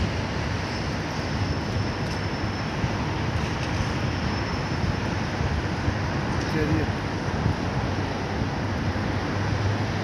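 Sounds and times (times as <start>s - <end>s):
city ambience: 0.0s - 10.0s
wind buffeting microphone: 0.0s - 10.0s.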